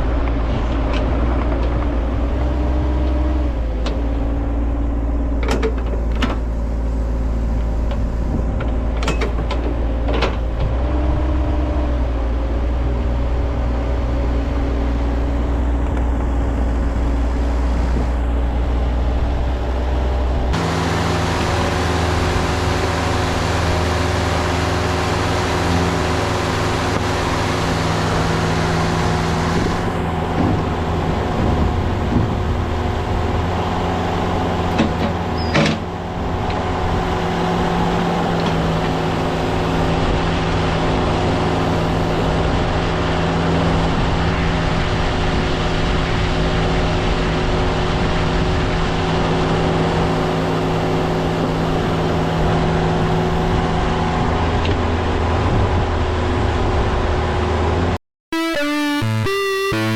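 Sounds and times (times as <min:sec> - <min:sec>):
skid steer engine running: 0:00.0 - 0:57.8.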